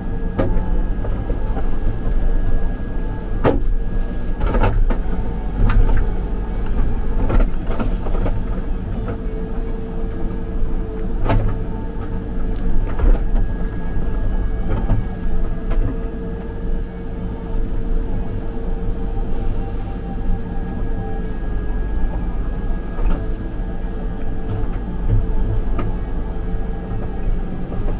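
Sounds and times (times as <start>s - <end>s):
diesel engine running: 0.0s - 27.9s
steady whine: 0.0s - 27.9s.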